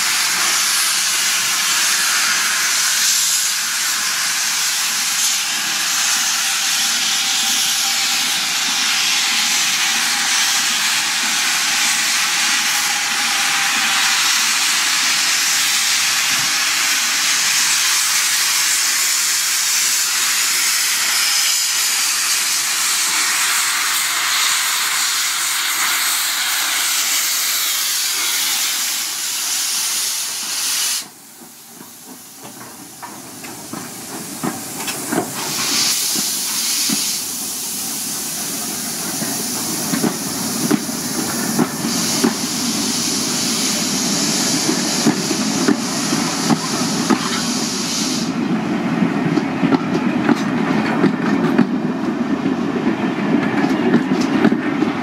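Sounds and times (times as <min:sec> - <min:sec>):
steam locomotive venting steam: 0:00.0 - 0:55.0.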